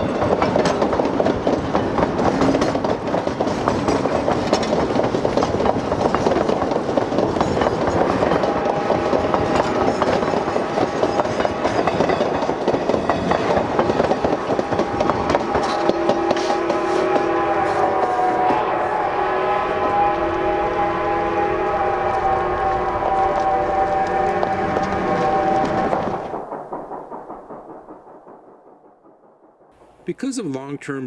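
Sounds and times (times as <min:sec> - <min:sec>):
train cars clattering over rail joints: 0:00.0 - 0:28.0.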